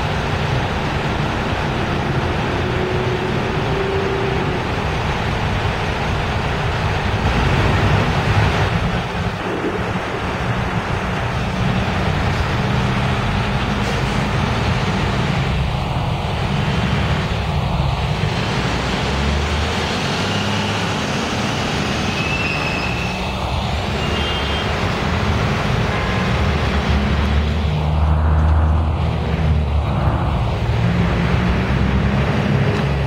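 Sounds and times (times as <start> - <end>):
cars passing: 0.0 - 33.0
diesel bus engines droning: 0.0 - 33.0
road noise: 0.0 - 33.0.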